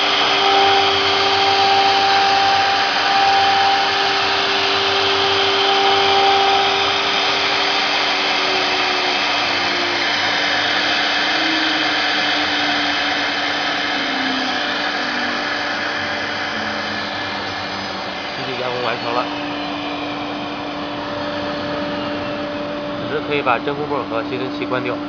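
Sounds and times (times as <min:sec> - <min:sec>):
wood router whirring: 0:00.0 - 0:25.0.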